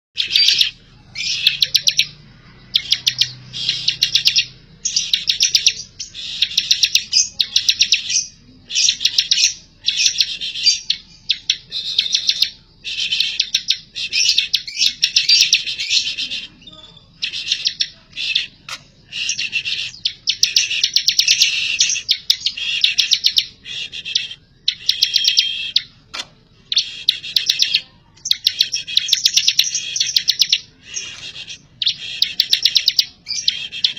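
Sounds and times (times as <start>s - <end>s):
songbird singing rapid phrases: 0.2s - 33.9s.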